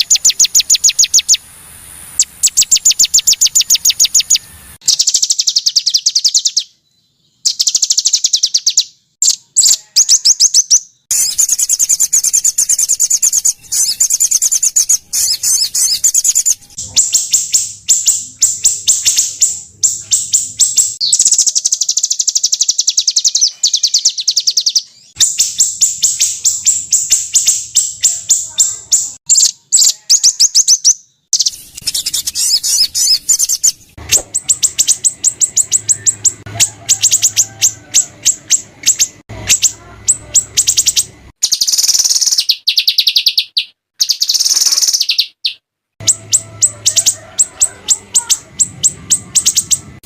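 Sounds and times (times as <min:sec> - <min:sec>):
songbirds trilling: 0:00.0 - 0:50.0.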